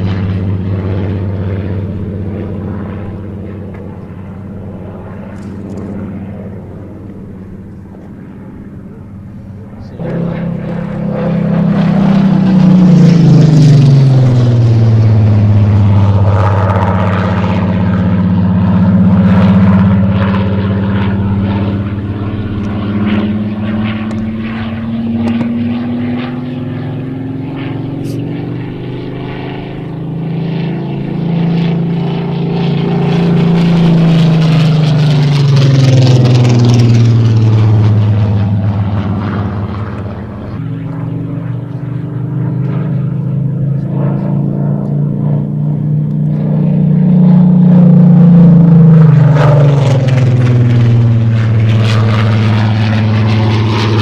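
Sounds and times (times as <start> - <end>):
propeller aircraft engine passing: 0.0 - 54.0.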